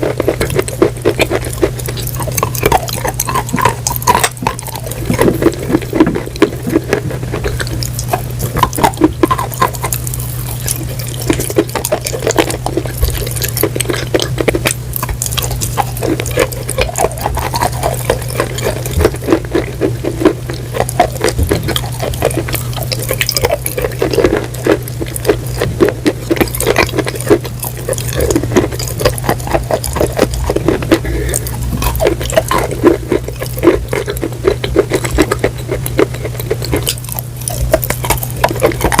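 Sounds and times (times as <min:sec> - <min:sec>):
steady low hum: 0:00.0 - 0:39.0
wet crunching and chewing: 0:00.0 - 0:39.0.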